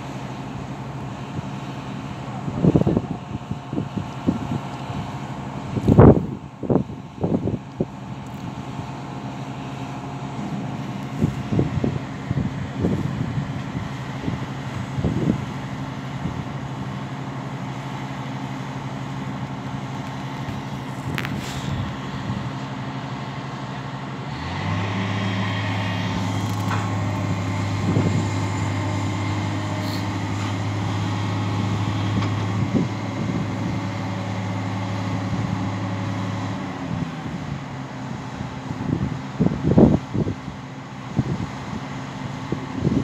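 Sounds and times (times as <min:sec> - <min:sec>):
excavator diesel engine running: 0:00.0 - 0:43.0
high hydraulic whine: 0:00.0 - 0:43.0.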